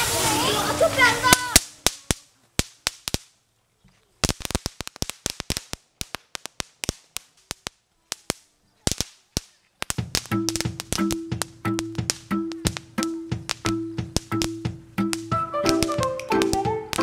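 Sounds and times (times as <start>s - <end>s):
firecrackers popping: 0.0s - 17.0s.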